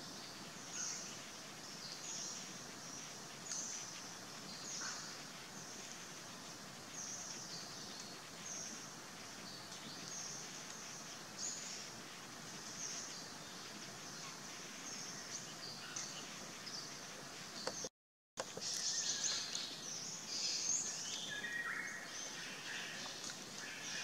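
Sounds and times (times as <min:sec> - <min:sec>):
outdoor hiss: 0:00.0 - 0:24.0.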